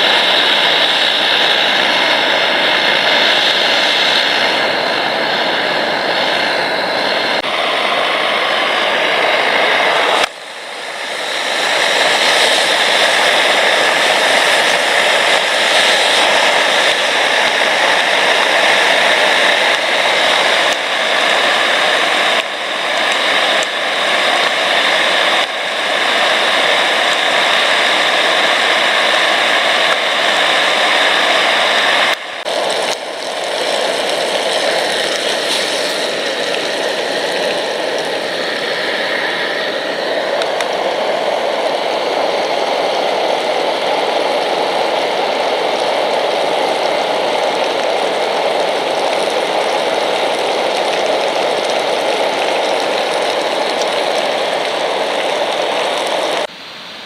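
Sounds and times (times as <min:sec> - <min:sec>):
camp stove roaring: 0:00.0 - 0:57.0.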